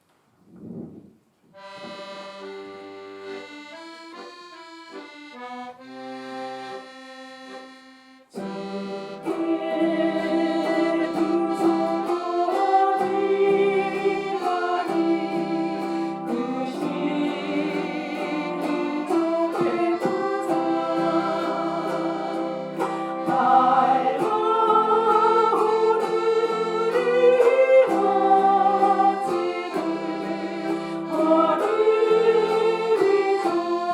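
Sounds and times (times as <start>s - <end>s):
accordion: 1.5s - 33.9s.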